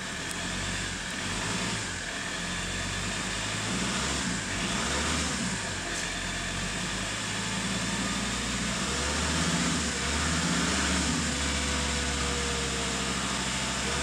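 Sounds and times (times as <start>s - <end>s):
diesel engine revving and idling: 0.0s - 14.0s.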